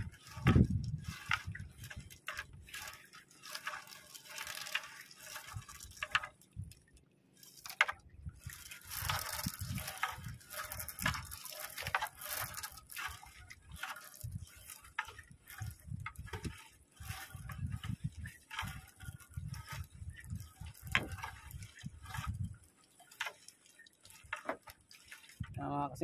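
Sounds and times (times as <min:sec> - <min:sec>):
seawater splashing and dripping: 0:00.0 - 0:26.0.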